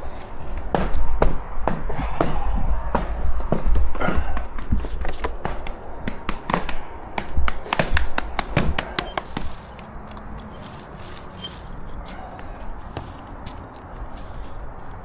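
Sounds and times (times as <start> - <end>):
steady background noise: 0.0 - 15.0
rubber mats tapping concrete: 3.0 - 15.0.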